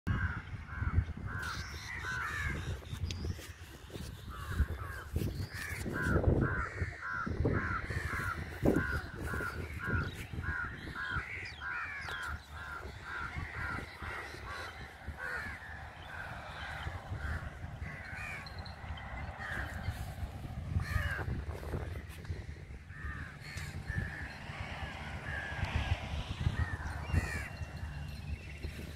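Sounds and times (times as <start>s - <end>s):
bird calls: 0.1s - 28.9s.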